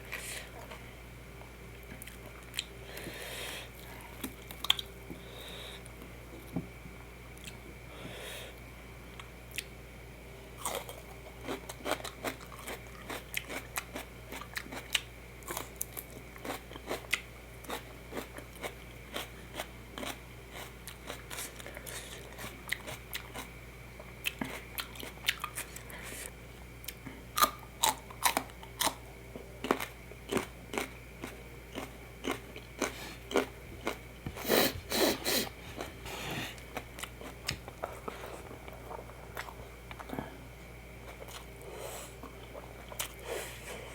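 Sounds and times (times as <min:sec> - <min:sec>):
person chewing and crunching food: 0:01.8 - 0:05.2, 0:10.6 - 0:43.9.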